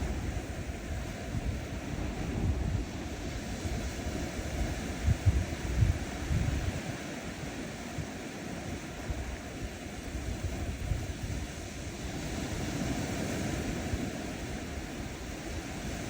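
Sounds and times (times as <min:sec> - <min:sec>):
waves washing onto sand: 0:00.0 - 0:16.0.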